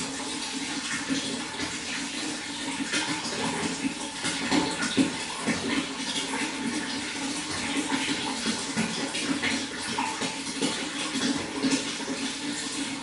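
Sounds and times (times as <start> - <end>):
running water splashing and gurgling: 0.0 - 13.0.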